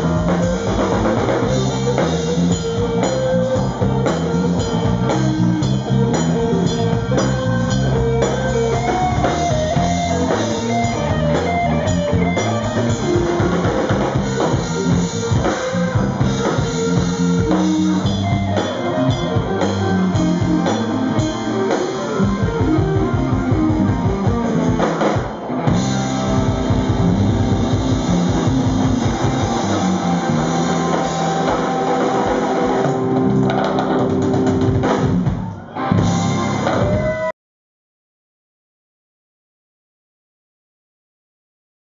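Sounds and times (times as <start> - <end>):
live rock band playing: 0.0 - 37.3.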